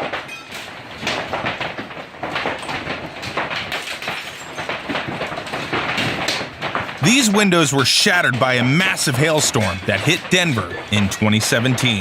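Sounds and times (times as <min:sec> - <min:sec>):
hailstones clattering: 0:00.0 - 0:12.0.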